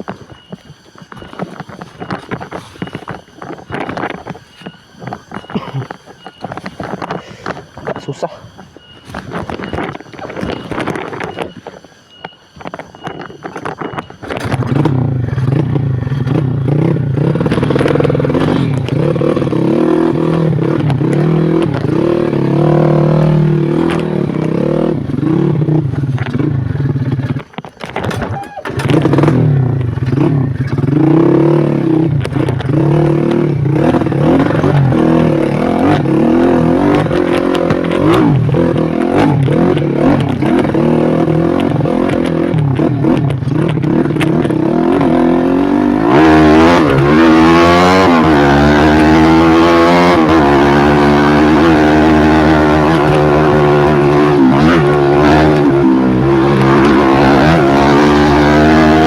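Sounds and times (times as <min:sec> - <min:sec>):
clatter on rocky trail: 0:00.0 - 0:59.0
motorcycle engine revving: 0:00.0 - 0:59.0.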